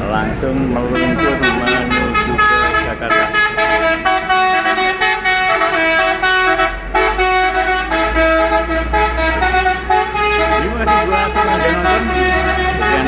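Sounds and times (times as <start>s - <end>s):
low rumble of traffic: 0.0s - 13.0s
vehicle horns playing a tune: 0.9s - 13.0s.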